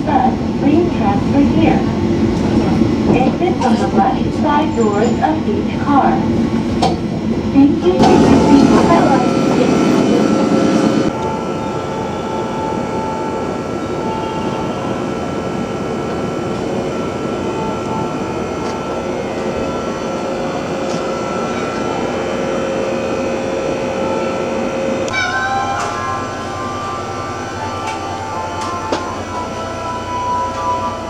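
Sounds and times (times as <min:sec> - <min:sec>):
faint steady tones: 0:00.0 - 0:31.0
train rumbling: 0:00.0 - 0:31.0.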